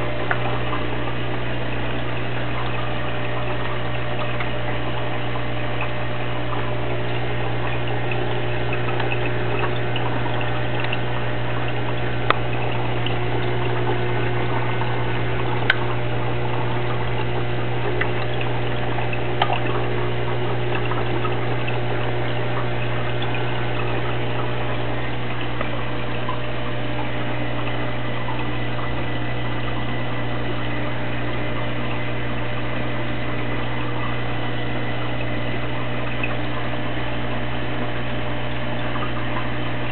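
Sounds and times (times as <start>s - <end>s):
bubbling water: 0.0s - 39.9s
water pump humming: 0.0s - 39.9s.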